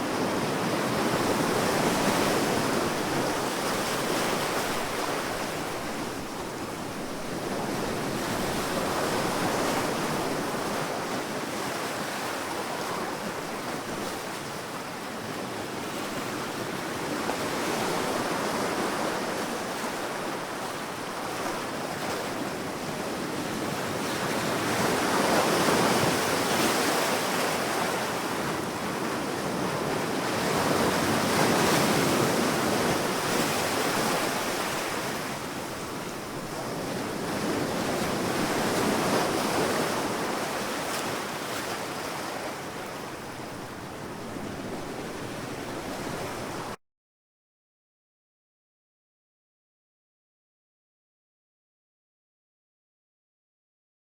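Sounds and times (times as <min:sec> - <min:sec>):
sea waves washing ashore: 0:00.0 - 0:46.8.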